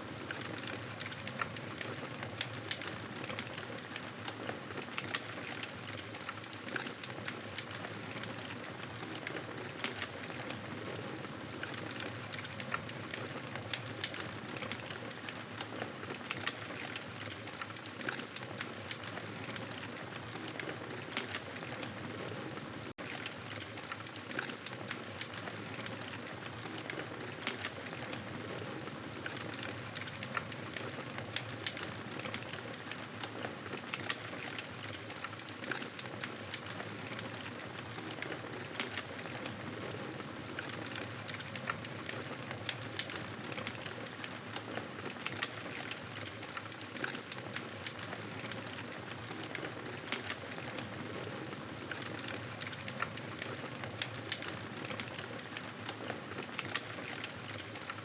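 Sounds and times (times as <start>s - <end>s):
campfire crackling and popping: 0.2s - 10.6s, 11.2s - 22.0s, 23.0s - 58.0s.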